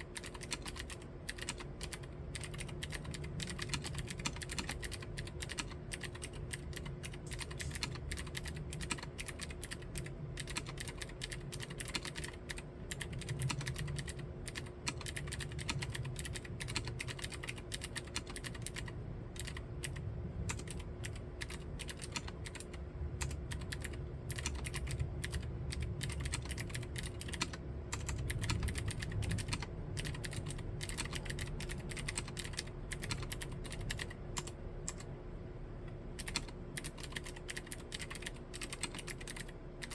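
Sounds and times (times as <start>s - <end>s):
mechanical keyboard typing: 0.0s - 35.1s, 36.2s - 39.9s.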